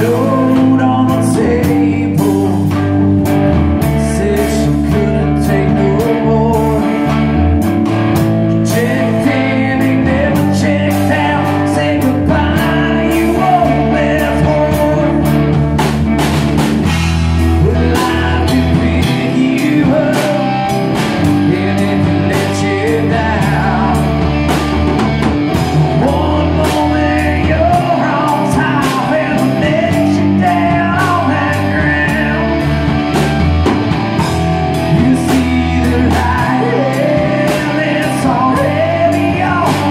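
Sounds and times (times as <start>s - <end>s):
person singing: 0.0s - 16.1s, 16.9s - 39.9s
drum kit steady beat: 0.0s - 39.9s
electric guitar playing: 0.0s - 39.9s.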